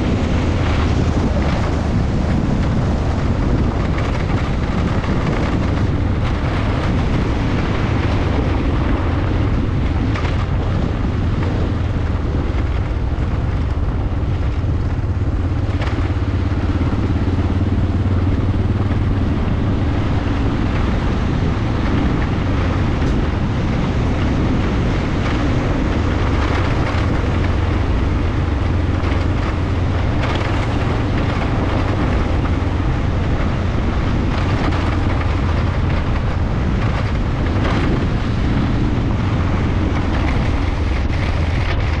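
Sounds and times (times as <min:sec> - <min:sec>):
motorcycle engine running: 0:00.0 - 0:42.0
wind rushing: 0:00.0 - 0:42.0.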